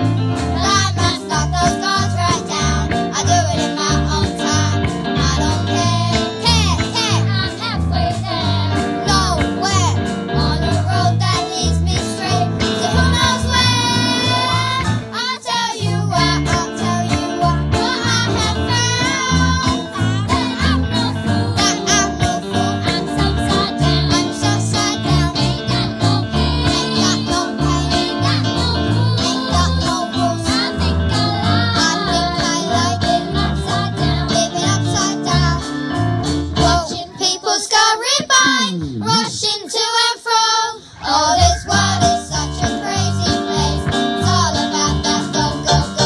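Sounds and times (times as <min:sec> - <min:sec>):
instrumental accompaniment with bass beat: 0:00.0 - 0:37.2, 0:38.2 - 0:39.6, 0:41.1 - 0:46.0
girls singing a pop song: 0:00.5 - 0:35.8, 0:36.6 - 0:46.0.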